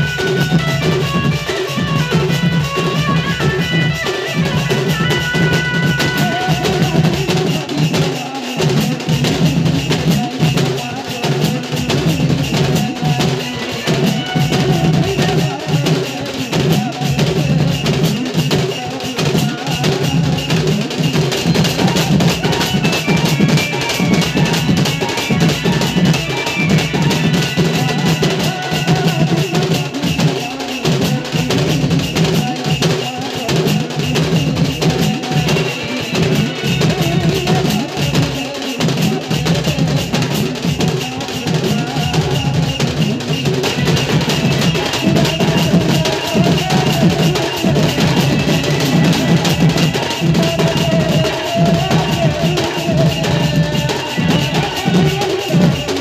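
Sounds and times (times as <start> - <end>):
dhol drums beating: 0.0 - 56.0
music: 0.0 - 56.0.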